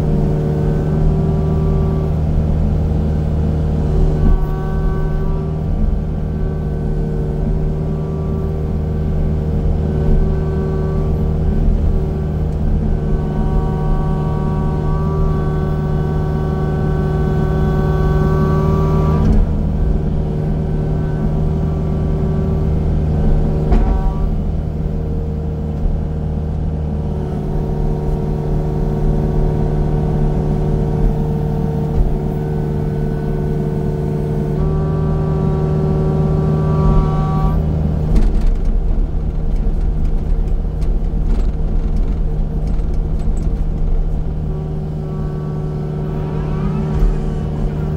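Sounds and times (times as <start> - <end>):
high-pitched whine: 0.0 - 38.7, 43.3 - 47.9
heavy machine engine running: 0.0 - 47.9.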